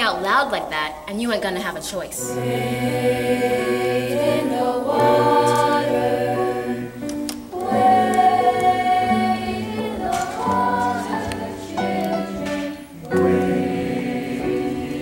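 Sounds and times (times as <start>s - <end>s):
choir of young voices singing: 2.2s - 15.0s.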